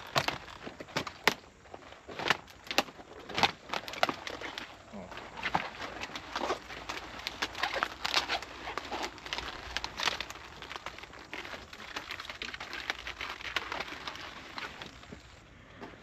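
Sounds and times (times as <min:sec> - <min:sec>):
plant leaves crackling and rustling: 0:00.0 - 0:15.6
crunchy snaps: 0:00.0 - 0:16.0.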